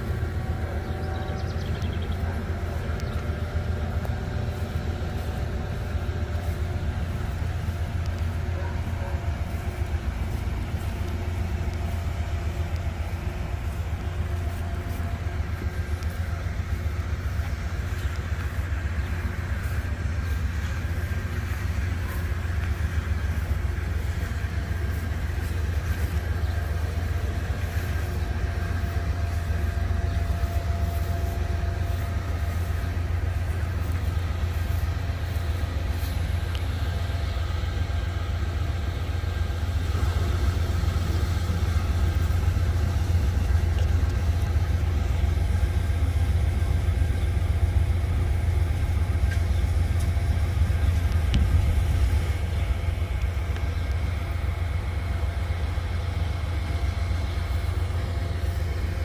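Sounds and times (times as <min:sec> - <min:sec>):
freight train deep drone: 0:00.0 - 0:59.0.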